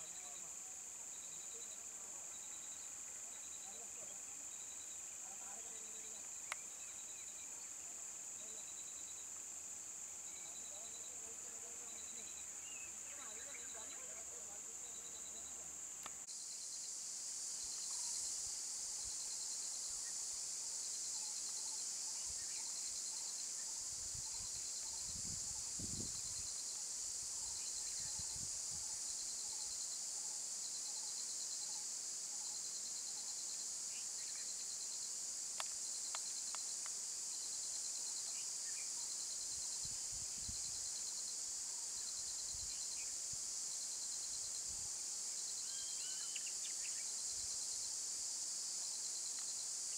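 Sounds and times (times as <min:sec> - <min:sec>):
insect chorus drone: 0:00.0 - 0:49.9.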